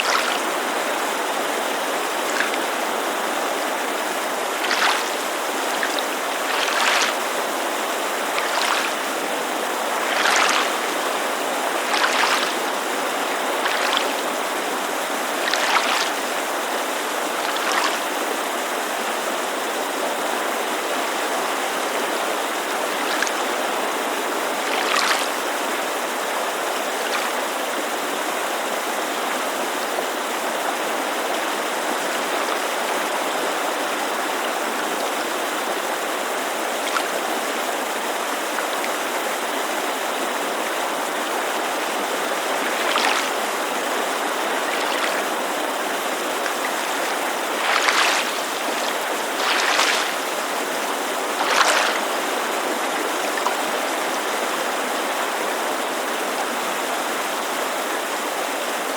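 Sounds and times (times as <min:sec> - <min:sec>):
lake water lapping: 0:00.0 - 0:19.3, 0:20.7 - 0:28.0, 0:28.8 - 0:55.5
creek rushing: 0:00.0 - 0:58.9.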